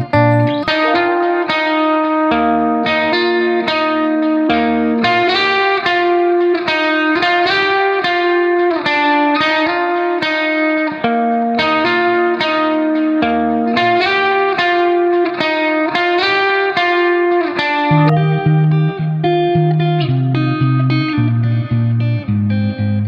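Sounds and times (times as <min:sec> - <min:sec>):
plucked guitar-like melody: 0:00.0 - 0:23.0.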